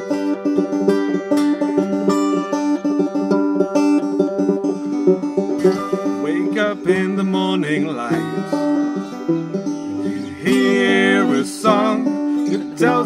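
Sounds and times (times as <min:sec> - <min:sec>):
acoustic guitar playing: 0:00.0 - 0:13.0
banjo picking quick runs: 0:00.0 - 0:13.0.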